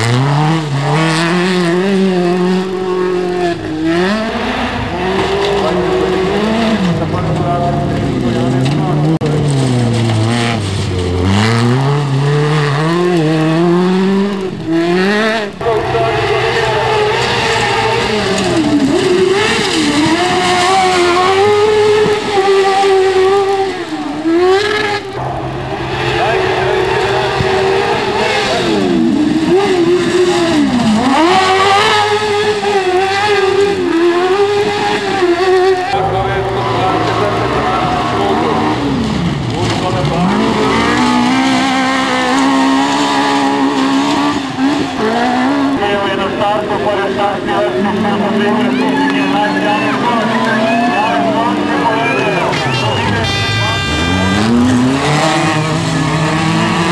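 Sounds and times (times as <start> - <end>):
buggy engine revving: 0.0 - 56.9.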